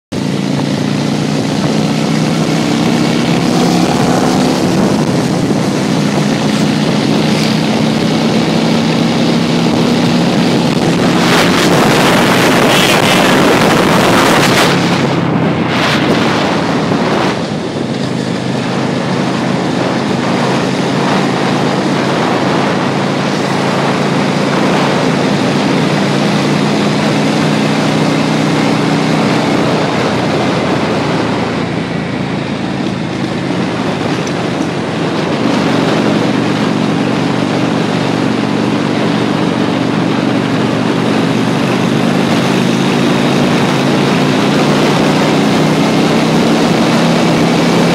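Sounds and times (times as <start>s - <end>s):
motorcycle engine running: 0.1s - 47.9s
wind rush on microphone: 0.1s - 47.9s.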